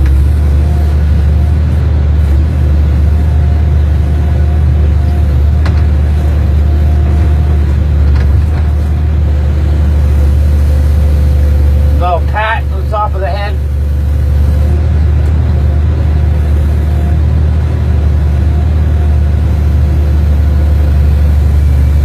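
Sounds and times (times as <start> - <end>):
excavator diesel engine rumbling: 0.0 - 22.0.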